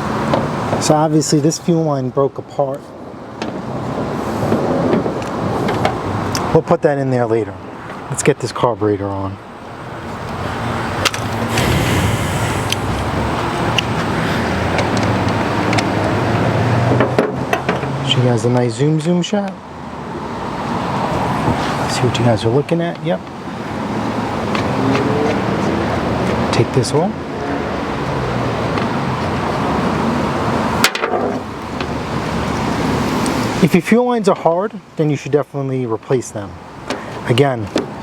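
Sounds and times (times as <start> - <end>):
vehicle engine and road noise: 0.0 - 35.0, 36.3 - 38.0.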